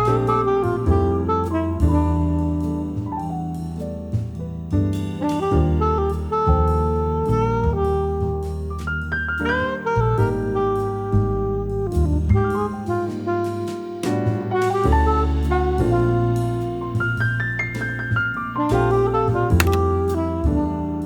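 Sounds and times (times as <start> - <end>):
bass: 0.0 - 21.0
piano: 0.0 - 21.0.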